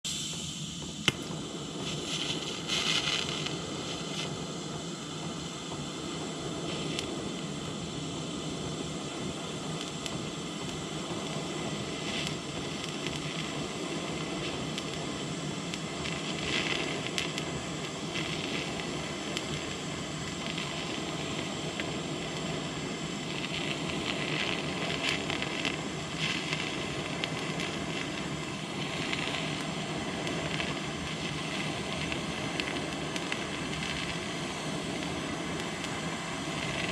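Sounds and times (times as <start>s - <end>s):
welding arc hissing: 0.0s - 36.9s.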